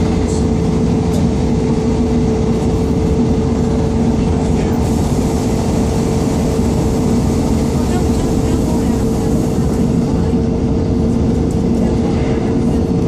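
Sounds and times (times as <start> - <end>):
train engine and wheels rumbling: 0.0 - 13.0.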